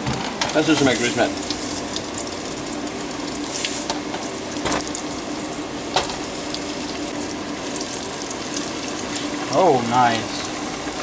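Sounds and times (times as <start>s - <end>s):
food deep-frying in grease: 0.0s - 11.0s.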